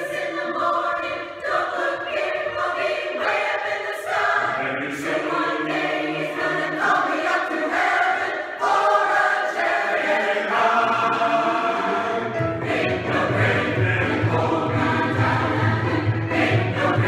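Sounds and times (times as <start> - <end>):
mixed choir singing in harmony: 0.0 - 17.0.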